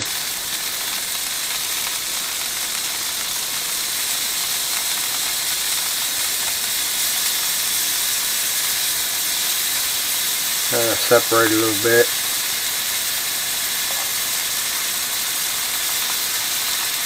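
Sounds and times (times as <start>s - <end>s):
mushrooms sizzling in butter: 0.0s - 17.0s.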